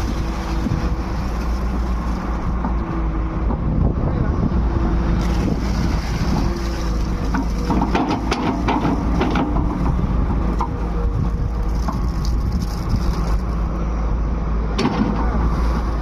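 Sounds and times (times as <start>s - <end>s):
heavy machinery engine rumbling: 0.0s - 16.0s.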